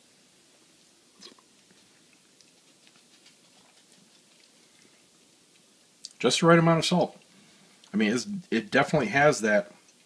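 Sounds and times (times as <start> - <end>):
quiet eating sounds: 0.0 - 10.0.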